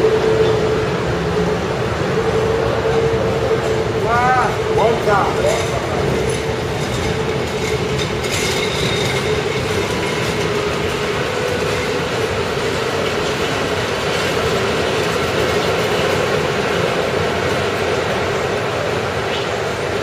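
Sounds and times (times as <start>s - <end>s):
train wheels rumbling on rails: 0.0s - 20.0s
train whine: 0.0s - 20.0s.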